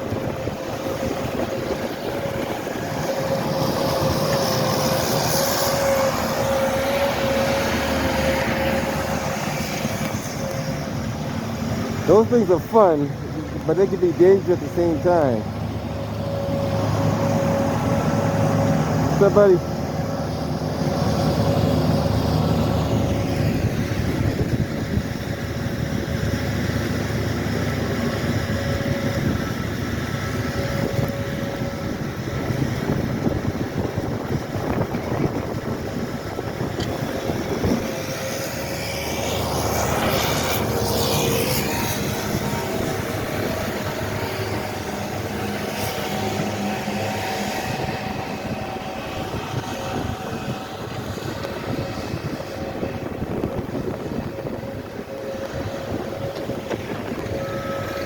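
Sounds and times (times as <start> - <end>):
heavy vehicle engines running: 0.0 - 58.0
vehicle passing close: 0.0 - 58.0.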